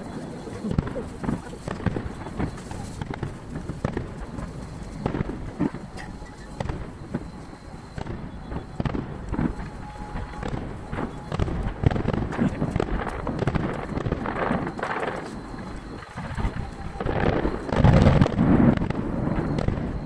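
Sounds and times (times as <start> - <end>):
distant fireworks booming: 0.0 - 20.0.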